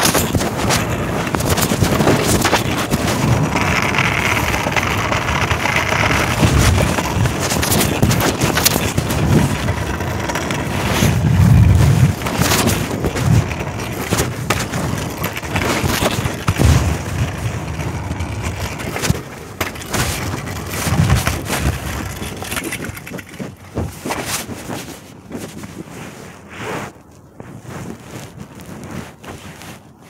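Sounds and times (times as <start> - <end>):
fabric rustling and scraping: 0.0 - 30.0.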